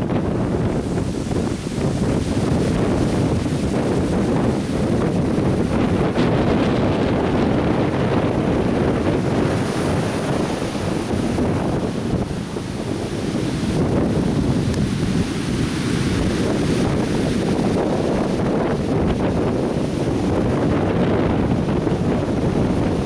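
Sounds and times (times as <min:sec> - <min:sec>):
surf breaking on a beach: 0:00.0 - 0:23.0
wind buffeting microphone: 0:00.0 - 0:23.0.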